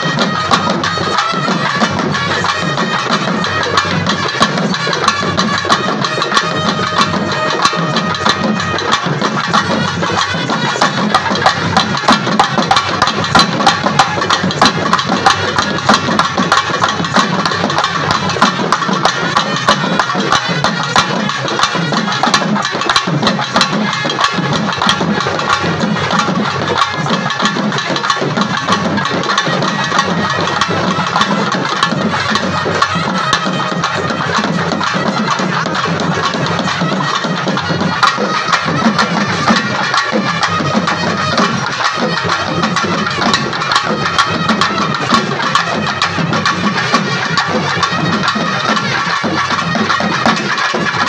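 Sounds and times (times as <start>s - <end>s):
fast drumming on barrel drums: 0.0s - 51.0s
shrill wind instrument melody: 0.0s - 51.0s.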